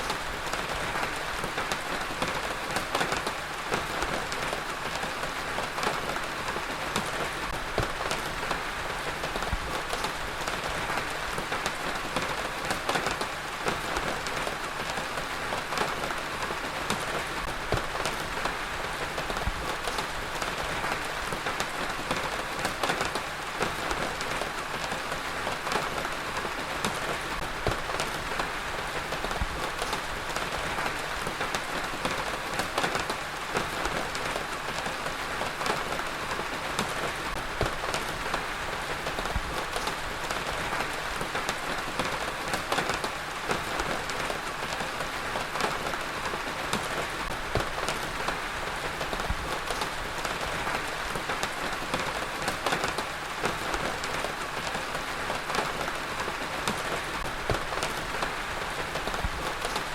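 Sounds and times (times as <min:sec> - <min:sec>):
heavy rain on a surface: 0:00.0 - 0:59.9.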